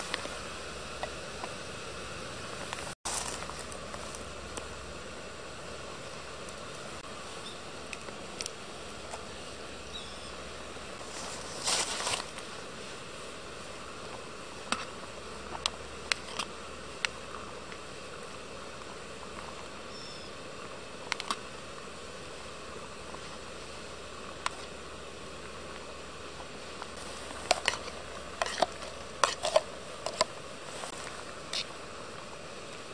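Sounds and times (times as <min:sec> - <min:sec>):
gas stove hissing: 0:00.0 - 0:32.9
water boiling in a pot: 0:00.0 - 0:32.9.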